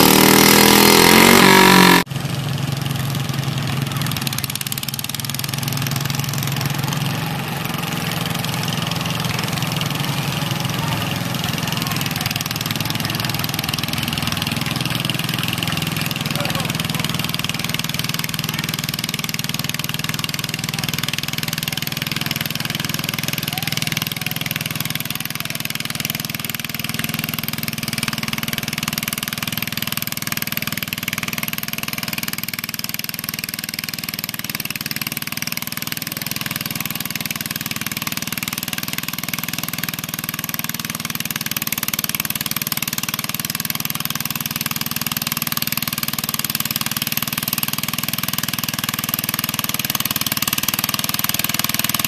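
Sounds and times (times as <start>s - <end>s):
garden tractor engine running: 0.0s - 52.0s.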